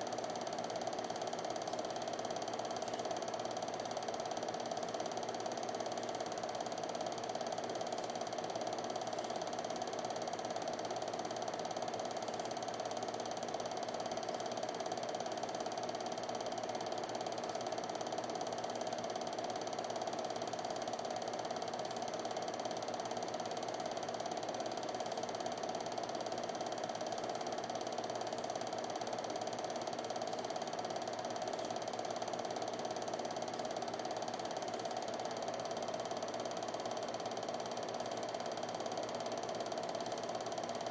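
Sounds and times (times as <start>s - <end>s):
film projector running: 0.0s - 40.9s.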